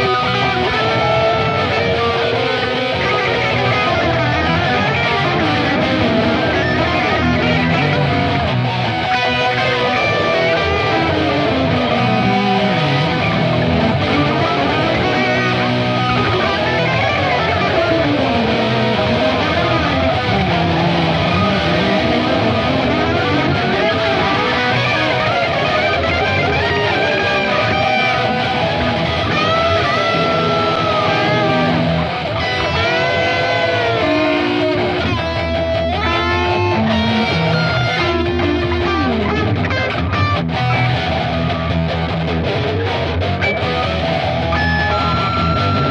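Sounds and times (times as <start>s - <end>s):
distorted electric guitars: 0.0s - 45.9s.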